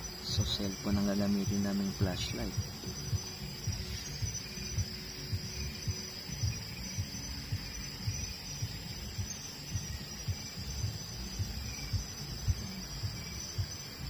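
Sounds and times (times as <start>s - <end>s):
night insects chorus: 0.0s - 14.0s.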